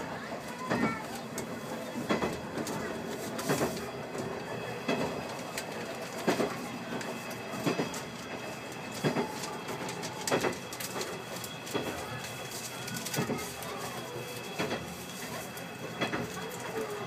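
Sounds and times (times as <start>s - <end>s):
train running noise: 0.0s - 17.0s
wheels clacking over rail joints: 0.0s - 17.0s.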